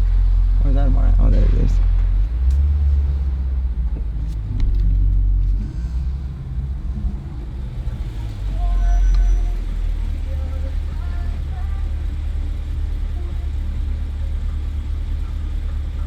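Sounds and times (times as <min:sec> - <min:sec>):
car engine low rumble: 0:00.0 - 0:16.0
road noise: 0:00.0 - 0:16.0.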